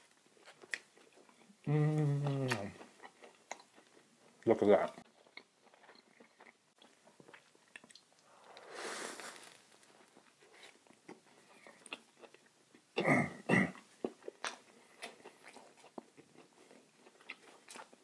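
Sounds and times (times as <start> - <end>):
close chewing with mouth clicks: 0.0 - 8.6, 9.7 - 13.0, 13.7 - 18.0.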